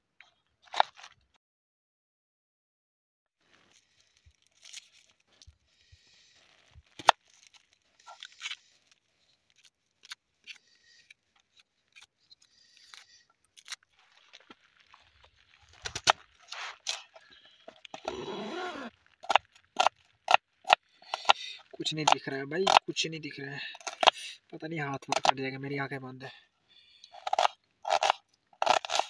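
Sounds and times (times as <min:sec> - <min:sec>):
onion skin crackling and tearing: 0:00.6 - 0:01.3, 0:03.4 - 0:22.8, 0:23.6 - 0:24.3, 0:25.0 - 0:25.4, 0:26.8 - 0:29.0.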